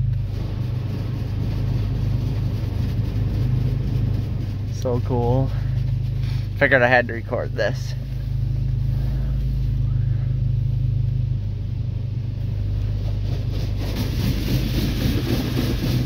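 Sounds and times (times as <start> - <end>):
steady low hum: 0.0 - 16.0
water jets spraying car: 0.0 - 16.0.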